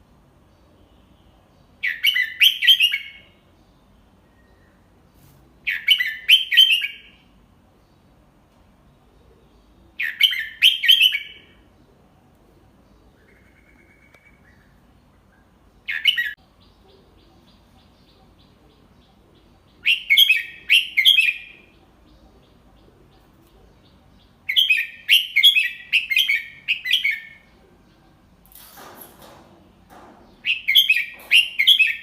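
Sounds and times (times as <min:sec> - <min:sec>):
bird chirping song: 0:00.0 - 0:32.0.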